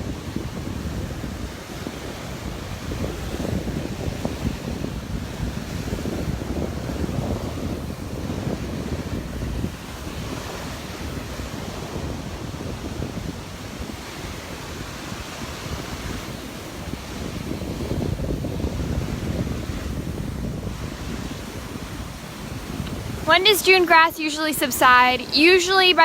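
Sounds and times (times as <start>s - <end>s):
surf washing onto beach: 0.0s - 26.0s
wind buffeting microphone: 0.0s - 26.0s.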